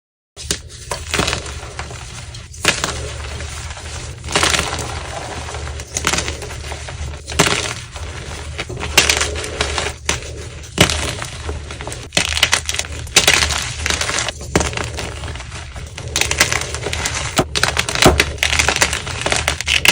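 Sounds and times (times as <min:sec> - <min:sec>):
chalk blocks crunching: 0:00.4 - 0:19.9.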